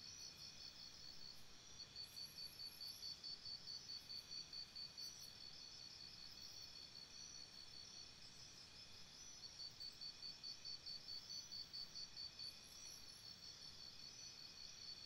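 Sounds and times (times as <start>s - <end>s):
insect chirping: 0.0s - 15.0s
soft steady hiss: 0.0s - 15.0s.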